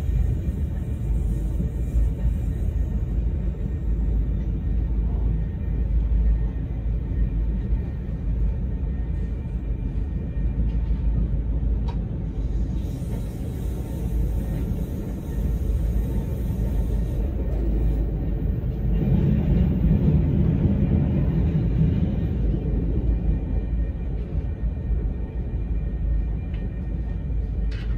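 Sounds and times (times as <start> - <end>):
passenger train rumbling on track: 0.0 - 27.9.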